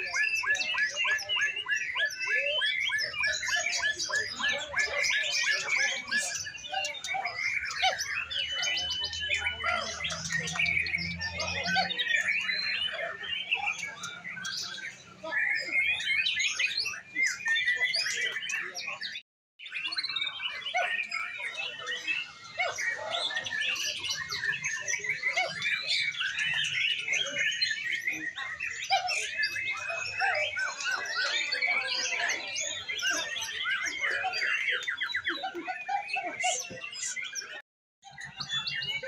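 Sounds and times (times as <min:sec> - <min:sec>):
songbirds chorus: 0:00.0 - 0:39.0.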